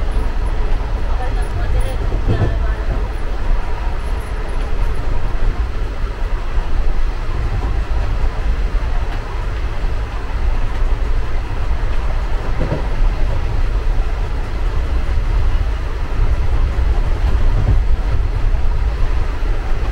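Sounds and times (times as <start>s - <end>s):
train carriage rumble: 0.0s - 19.9s.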